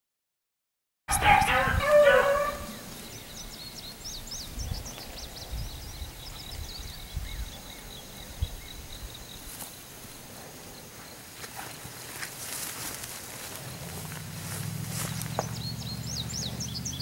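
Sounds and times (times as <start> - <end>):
small birds chirping: 1.1 - 12.0, 13.3 - 17.0.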